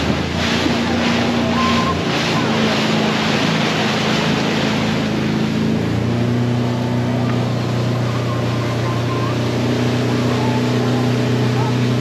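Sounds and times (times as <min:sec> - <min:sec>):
motorboat engine running: 0:00.0 - 0:12.0
wind and water rushing: 0:00.0 - 0:12.0.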